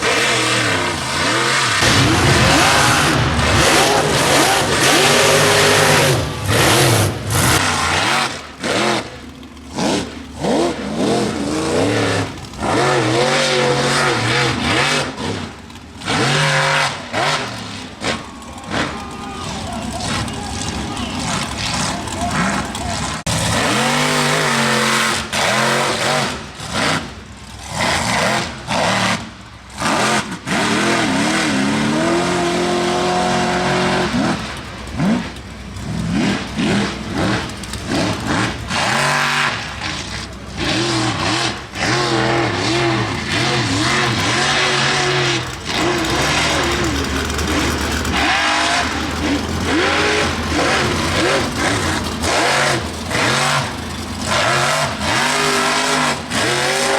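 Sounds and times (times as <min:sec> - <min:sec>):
truck engine revving hard: 0:00.0 - 0:56.9.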